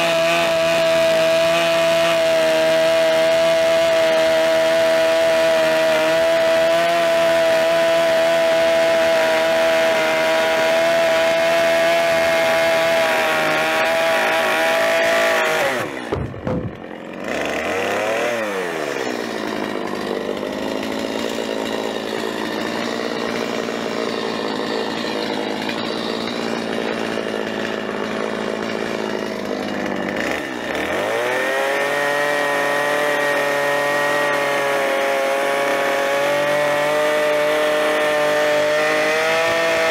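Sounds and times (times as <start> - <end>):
chainsaw cutting logs: 0.0 - 39.9
chainsaw idling: 0.0 - 39.9.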